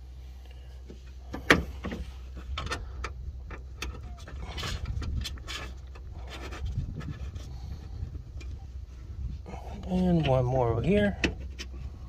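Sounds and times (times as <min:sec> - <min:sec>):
steady low rumble: 0:00.0 - 0:12.0
light clicks and metallic rattles: 0:00.4 - 0:08.6, 0:09.8 - 0:11.9
scraping: 0:01.6 - 0:12.0.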